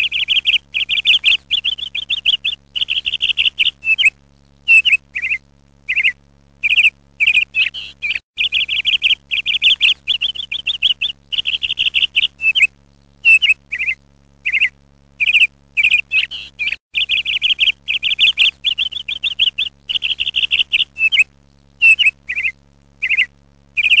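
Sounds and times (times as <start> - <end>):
songbird chirping: 0.0 - 4.1, 4.7 - 24.0
faint low hum: 0.0 - 24.0.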